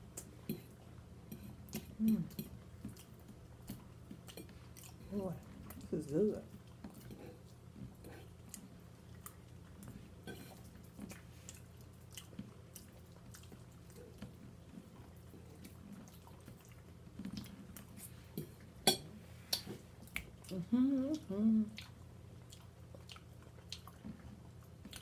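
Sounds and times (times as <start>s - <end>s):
faint low hum: 0.0s - 25.0s
person chewing wet food: 0.0s - 25.0s.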